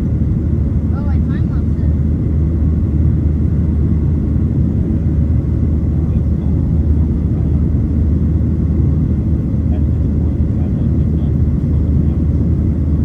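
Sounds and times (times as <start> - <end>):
airplane engines rumbling: 0.0 - 13.0.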